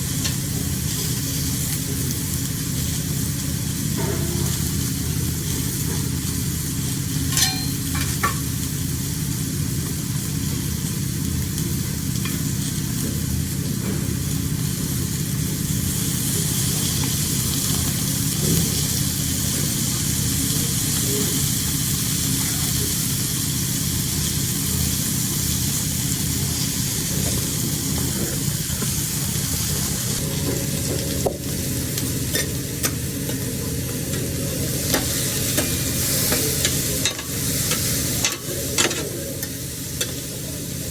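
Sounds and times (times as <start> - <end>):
seafood sizzling on a grill: 0.0 - 40.9
steady low hum: 0.0 - 40.9.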